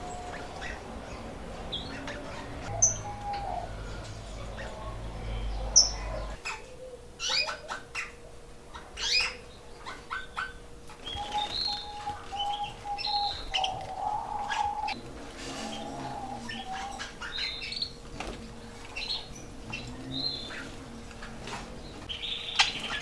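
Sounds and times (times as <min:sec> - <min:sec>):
canaries chirping: 0:00.0 - 0:23.0
faint steady hum: 0:00.0 - 0:23.0.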